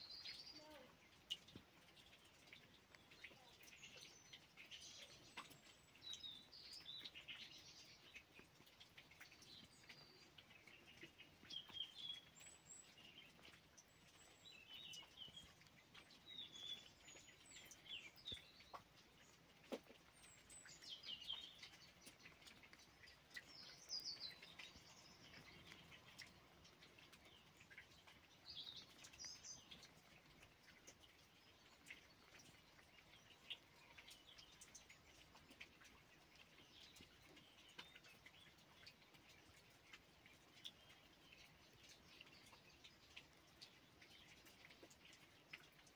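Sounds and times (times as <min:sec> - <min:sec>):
small birds chirping: 0:00.0 - 0:45.9
faint ticks: 0:00.6 - 0:45.9.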